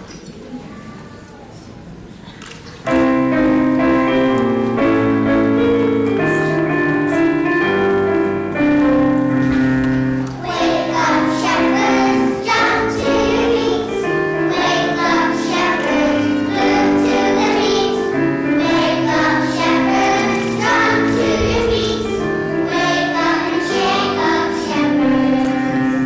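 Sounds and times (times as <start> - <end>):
children's choir singing: 2.9 - 26.0
instrumental held chords: 2.9 - 26.0.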